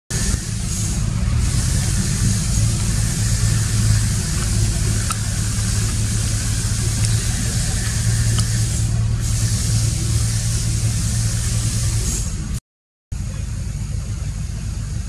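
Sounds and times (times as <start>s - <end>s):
low mechanical hum: 0.1s - 12.6s, 13.2s - 15.0s
high hiss: 0.2s - 12.6s.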